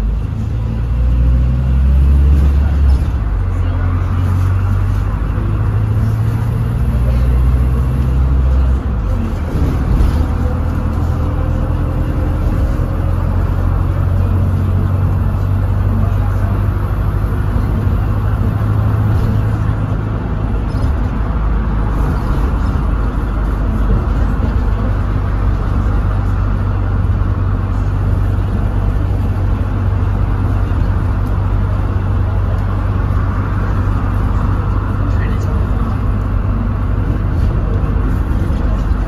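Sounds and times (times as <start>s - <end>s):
bus diesel engine droning: 0.0s - 39.0s
road noise: 0.0s - 39.0s.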